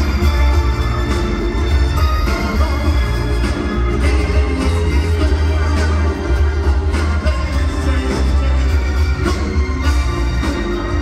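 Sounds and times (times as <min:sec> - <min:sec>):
loud live band music: 0:00.0 - 0:11.0.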